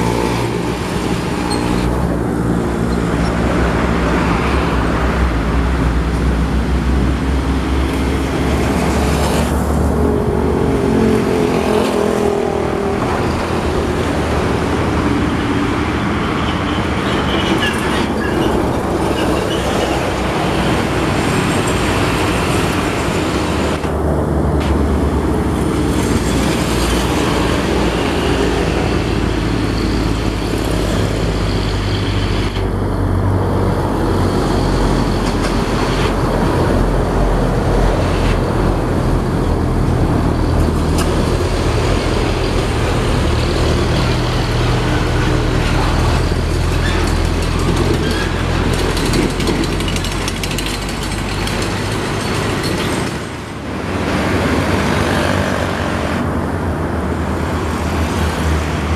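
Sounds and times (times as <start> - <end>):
road traffic: 0.0 - 58.9.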